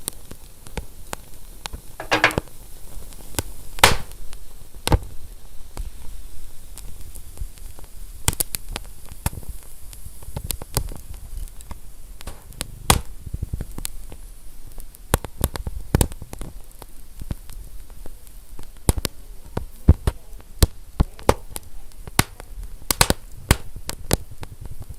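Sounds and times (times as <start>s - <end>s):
low rumble of flames: 0.0s - 24.9s
wood crackling and popping: 0.0s - 24.9s.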